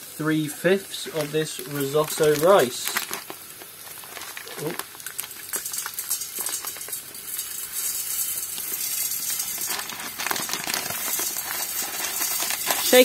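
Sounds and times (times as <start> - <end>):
onions and garlic sizzling in oil: 0.0 - 13.0
rice grains pattering into pot: 0.0 - 13.0.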